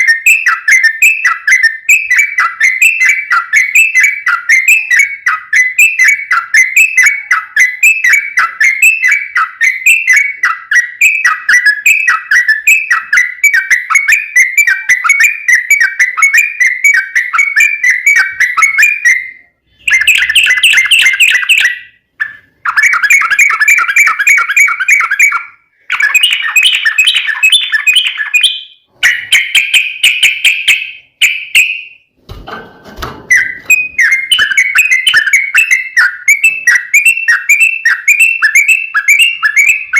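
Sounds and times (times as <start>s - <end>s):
bird singing whistled notes: 0.0s - 32.1s, 33.3s - 39.9s.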